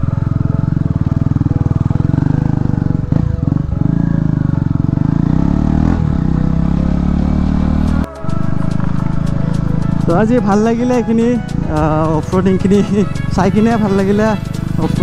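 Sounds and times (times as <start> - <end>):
motorcycle engine thrumming: 0.0 - 15.0.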